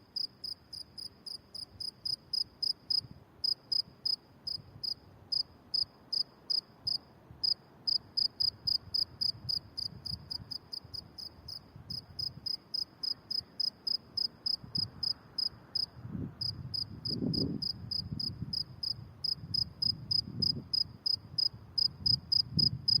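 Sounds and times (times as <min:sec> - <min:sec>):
cricket chirping: 0:00.1 - 0:23.0.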